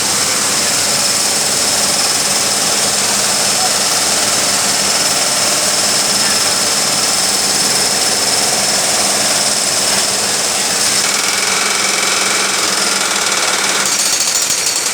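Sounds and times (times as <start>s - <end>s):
pneumatic drill rattling: 0.0s - 14.9s.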